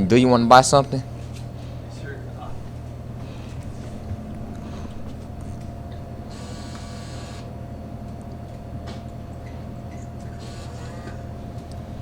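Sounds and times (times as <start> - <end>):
steady low hum: 0.0 - 12.0
vending machine whirring: 0.0 - 12.0.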